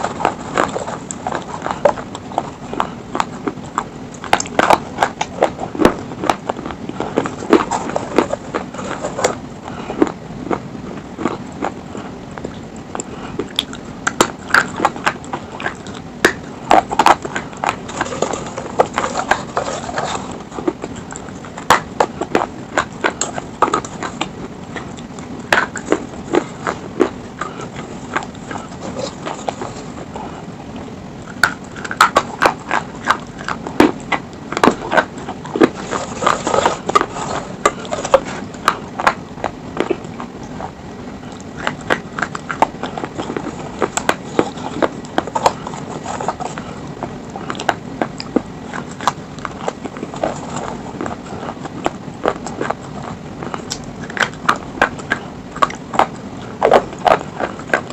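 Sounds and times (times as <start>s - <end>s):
crunching and chewing stone: 0.0s - 57.9s.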